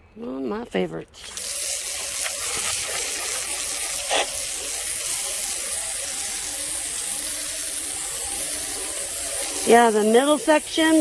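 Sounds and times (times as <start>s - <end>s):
steady high hiss: 1.2s - 11.0s.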